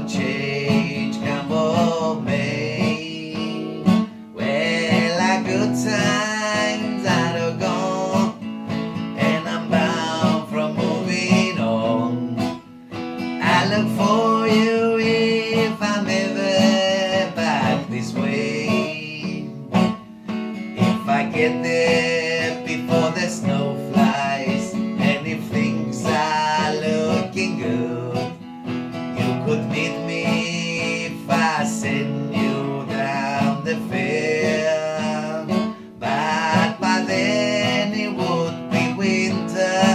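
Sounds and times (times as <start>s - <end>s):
person singing: 0.0s - 12.6s, 13.2s - 39.9s
strummed acoustic guitar: 0.0s - 39.9s.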